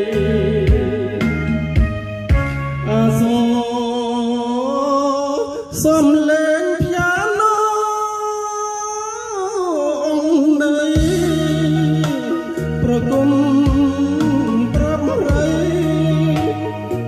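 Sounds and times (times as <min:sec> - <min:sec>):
slow song over speakers: 0:00.0 - 0:17.0.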